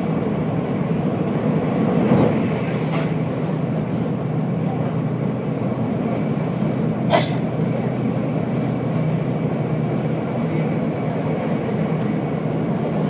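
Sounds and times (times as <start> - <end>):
train rumble and hum: 0.0 - 13.0.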